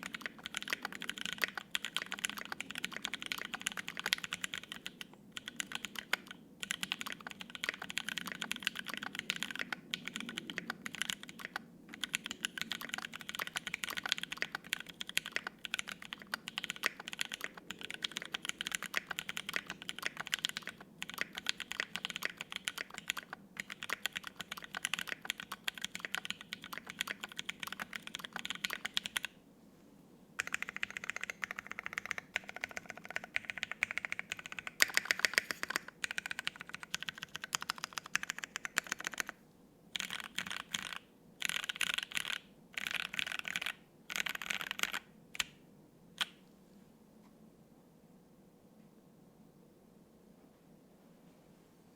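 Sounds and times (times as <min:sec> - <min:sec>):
mechanical keyboard typing: 0:00.0 - 0:29.4, 0:30.4 - 0:45.5.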